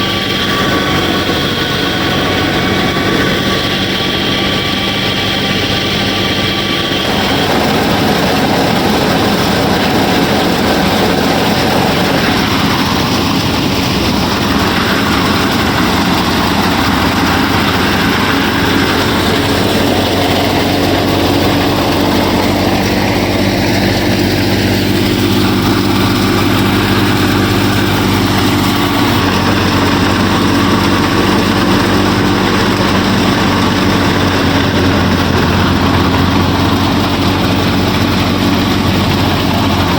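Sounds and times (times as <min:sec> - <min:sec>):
high-pitched whine: 0:00.0 - 0:39.9
motor droning hum: 0:00.0 - 0:39.9.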